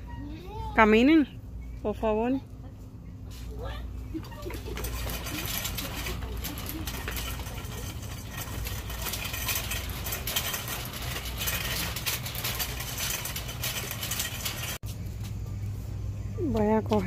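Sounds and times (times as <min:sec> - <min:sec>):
ventilation and refrigeration hum: 0:00.0 - 0:17.0.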